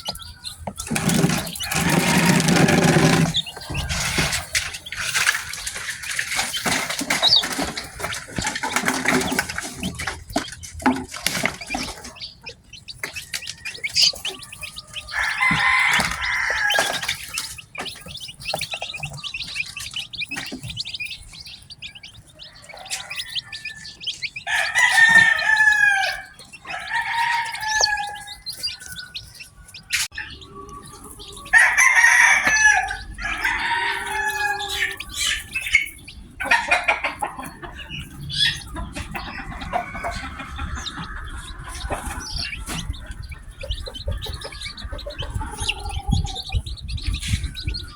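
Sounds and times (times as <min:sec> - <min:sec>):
chickens drawn-out calls: 0:00.0 - 0:47.9
chickens high chirps: 0:00.0 - 0:47.9.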